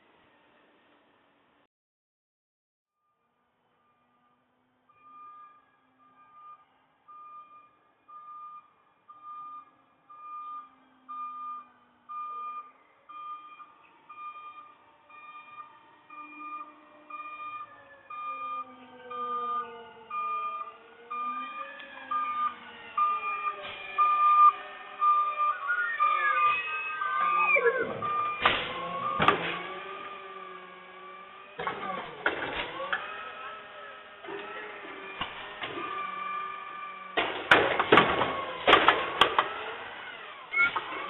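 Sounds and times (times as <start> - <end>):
truck reversing beeper: 3.0 - 32.4, 33.2 - 37.2, 40.1 - 41.0.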